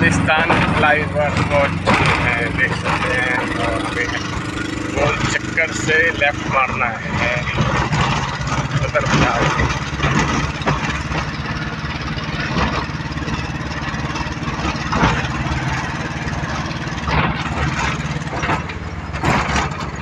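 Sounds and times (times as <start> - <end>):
goods carrier engine running: 0.0 - 20.0.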